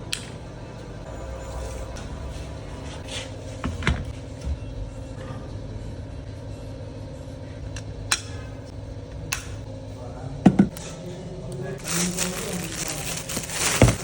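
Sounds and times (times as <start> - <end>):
workshop machinery humming: 0.0 - 14.0.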